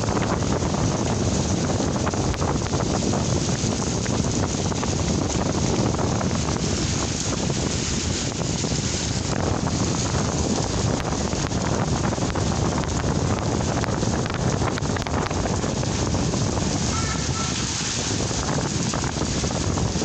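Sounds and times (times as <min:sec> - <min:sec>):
steady rain falling: 0:00.0 - 0:20.0
wind: 0:00.0 - 0:20.0.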